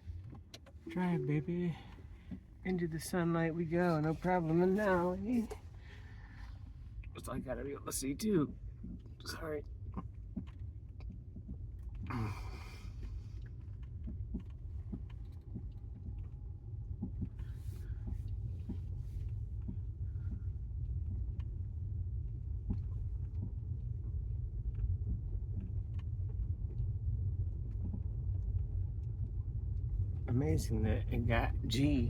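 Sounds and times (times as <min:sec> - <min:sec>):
road rumble inside car: 0:00.0 - 0:32.0.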